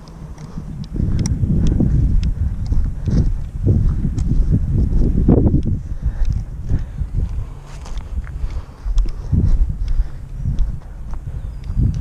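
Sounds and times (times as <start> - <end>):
running footsteps on dry leaves: 0.0 - 11.9.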